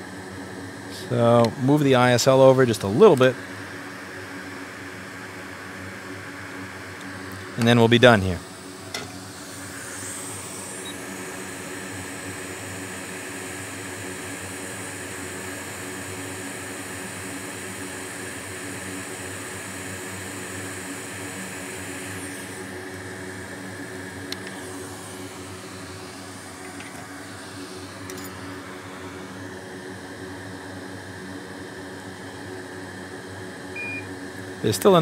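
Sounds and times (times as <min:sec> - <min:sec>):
hot air station blowing: 0:00.0 - 0:30.6
fan hum: 0:00.0 - 0:35.0.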